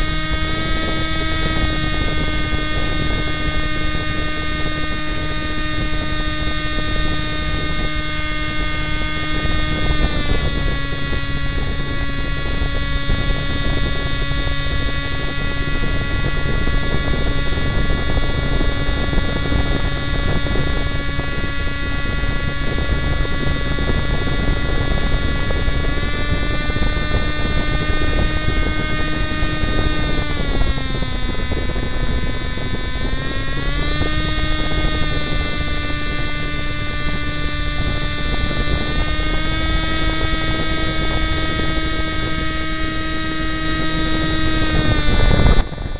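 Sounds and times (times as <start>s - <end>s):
paraglider engine and propeller droning: 0.0s - 45.9s.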